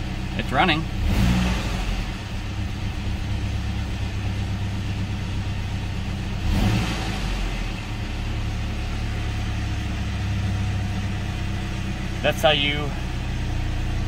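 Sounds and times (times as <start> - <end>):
engine revving: 0.0 - 5.1, 6.0 - 14.0
car engine idling: 0.0 - 14.0.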